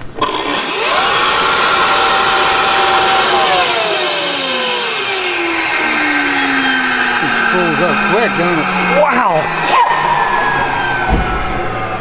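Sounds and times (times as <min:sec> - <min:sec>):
electric turbochargers whining: 0:00.0 - 0:12.0.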